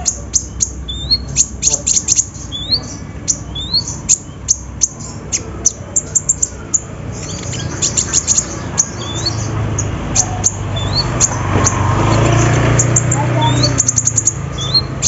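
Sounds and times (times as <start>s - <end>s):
sunbird chirping: 0.0s - 15.0s.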